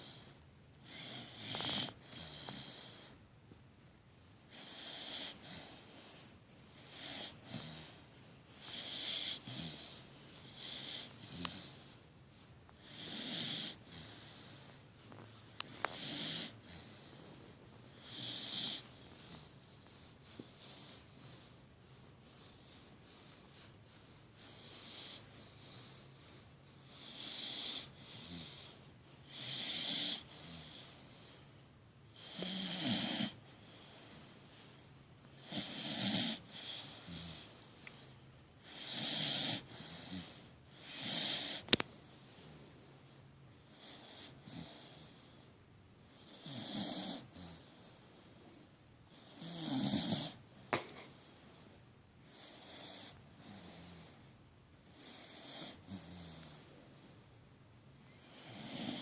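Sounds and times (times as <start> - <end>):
puppy snoring: 0.0 - 3.2, 4.4 - 12.1, 12.7 - 57.4, 58.0 - 59.0
soft breaths: 0.0 - 59.0.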